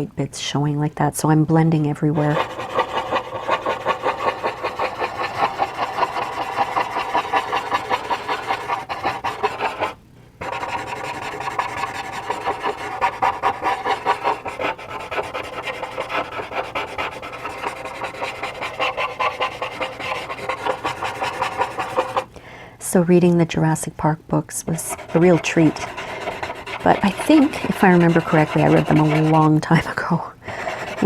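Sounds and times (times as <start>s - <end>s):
blending tool rubbing paper: 2.1s - 22.3s, 24.7s - 29.8s, 30.6s - 31.0s.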